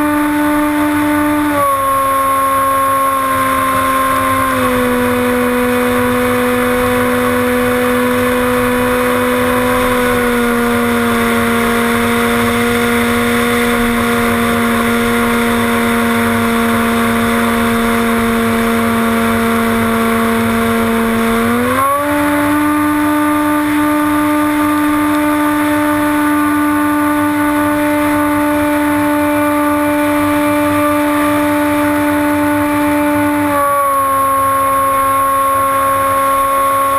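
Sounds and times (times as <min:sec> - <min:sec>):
electric motor propeller whine: 0:00.0 - 0:36.9.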